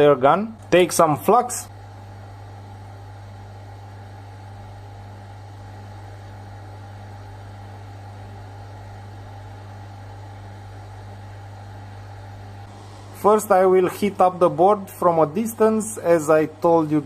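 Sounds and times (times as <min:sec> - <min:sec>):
hot air gun blower hum: 0:00.0 - 0:17.0.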